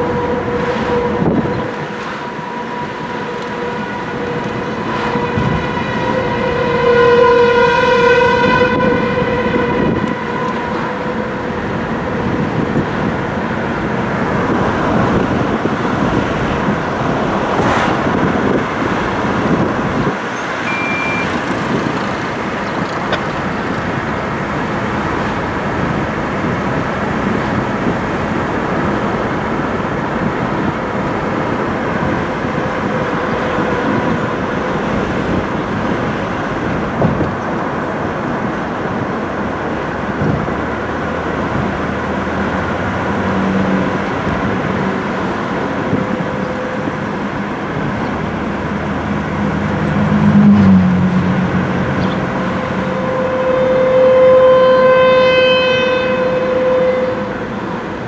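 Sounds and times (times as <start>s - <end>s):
car road and wind noise: 0.0s - 58.0s
distant warning siren: 0.0s - 58.0s.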